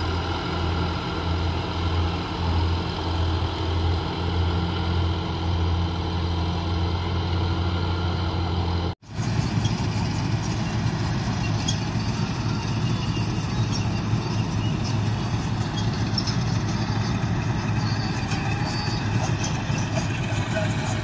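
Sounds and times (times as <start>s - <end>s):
heavy vehicle engine drone: 0.0s - 21.0s
road noise: 0.0s - 21.0s.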